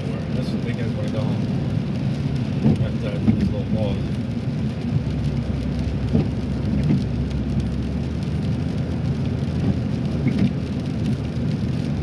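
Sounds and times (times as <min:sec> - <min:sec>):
rain ticking on car: 0:00.0 - 0:12.0
road and tyre rumble: 0:00.0 - 0:12.0.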